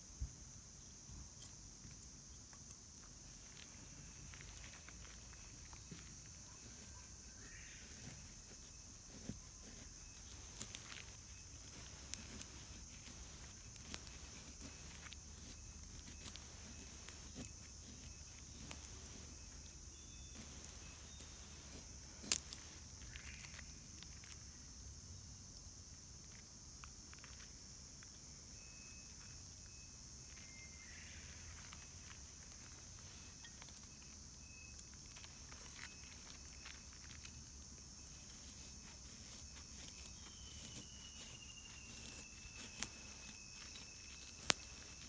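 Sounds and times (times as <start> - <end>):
high insect chirring: 0.0 - 45.0
small clicks and crackles: 0.8 - 28.2, 28.8 - 45.0.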